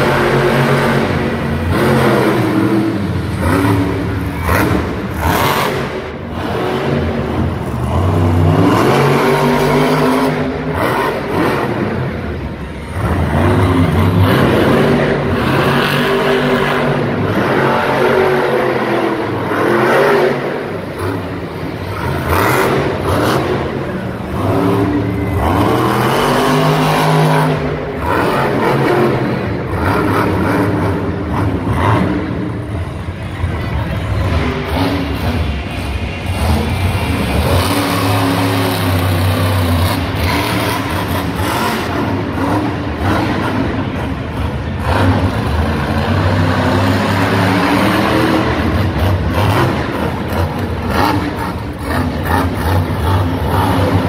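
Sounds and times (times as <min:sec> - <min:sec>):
truck engine revving hard: 0:00.0 - 0:54.0.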